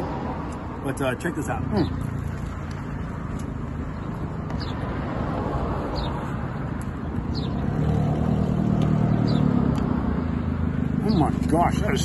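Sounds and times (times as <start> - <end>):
passing cars rumble: 0.0 - 12.0
vehicle engine: 0.0 - 12.0.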